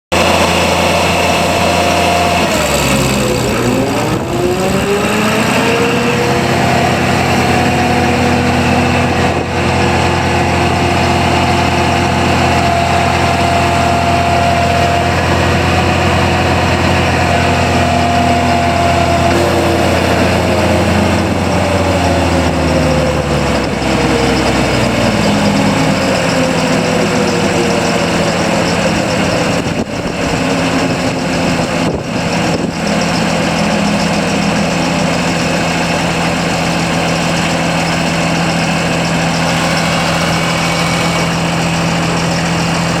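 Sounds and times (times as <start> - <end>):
engine with whine: 0.1 - 43.0.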